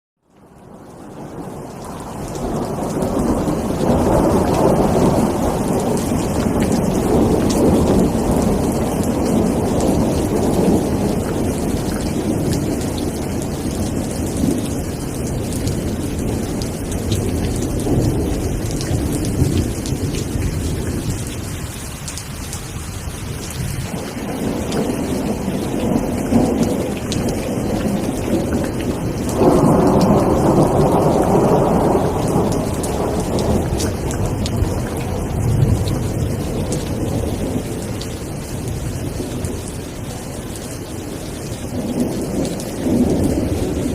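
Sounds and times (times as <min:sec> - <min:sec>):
steady rain: 0:00.2 - 0:43.9
low thunder rumbling: 0:00.7 - 0:43.9.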